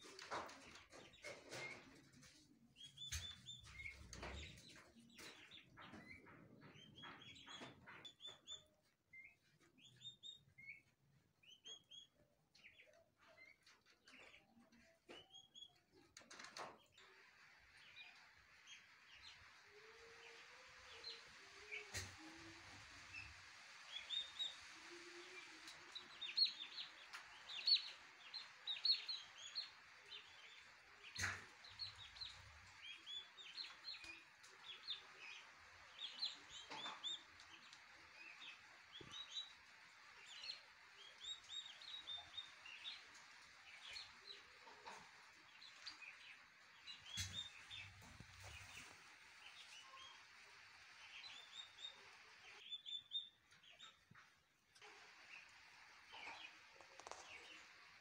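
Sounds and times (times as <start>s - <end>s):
turkey poults peeping: 0.0s - 58.0s.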